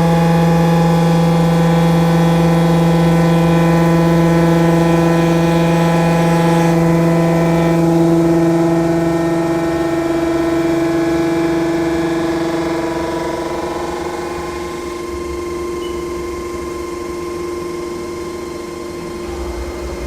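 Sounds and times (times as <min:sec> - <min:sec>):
spindle motor whine: 0:00.0 - 0:20.0.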